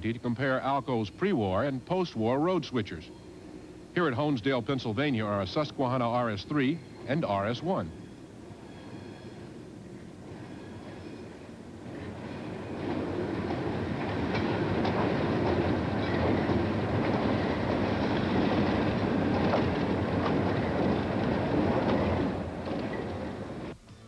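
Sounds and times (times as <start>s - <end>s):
diesel locomotive engine running: 0.0s - 23.8s
train wheels clicking over rail joints: 0.1s - 23.8s.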